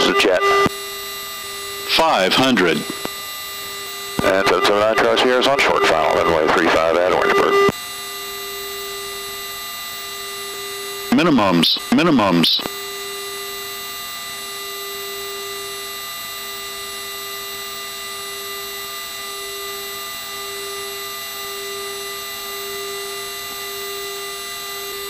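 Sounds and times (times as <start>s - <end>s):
electrical hum and whine: 0.0s - 25.0s.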